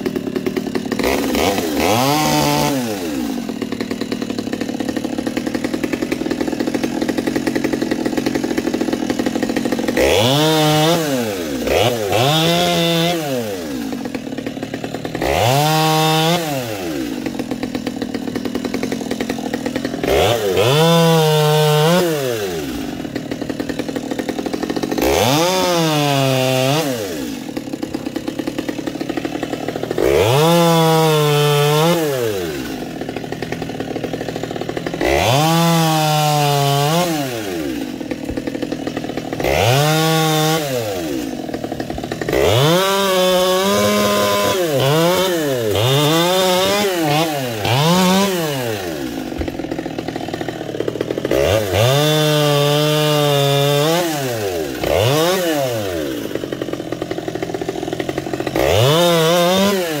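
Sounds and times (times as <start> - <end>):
chainsaw revving: 0.0 - 60.0.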